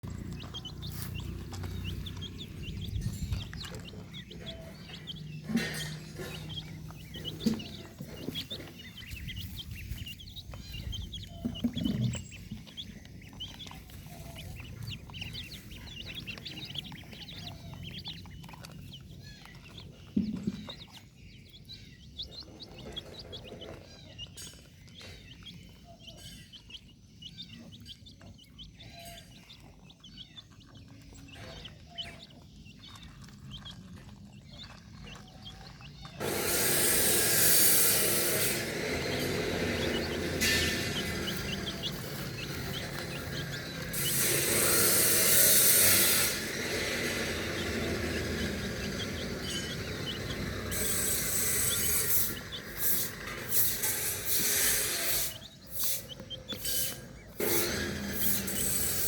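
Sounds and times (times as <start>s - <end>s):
high chirps of small birds: 0.0s - 59.0s.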